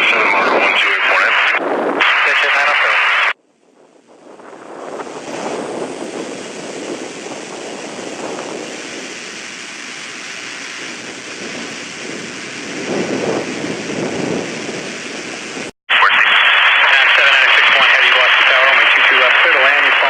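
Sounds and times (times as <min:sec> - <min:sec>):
jet engine roar: 0:00.0 - 0:03.4, 0:04.3 - 0:20.0.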